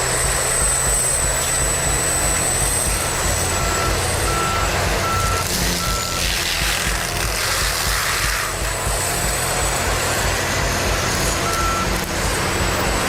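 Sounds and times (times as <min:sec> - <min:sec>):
backup alarm beeping: 0:00.0 - 0:06.3, 0:08.5 - 0:13.0
heavy machinery whining: 0:00.0 - 0:13.0.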